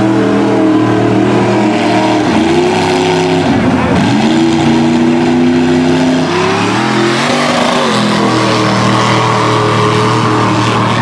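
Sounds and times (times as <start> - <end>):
vehicle engine revving hard: 0.0 - 11.0.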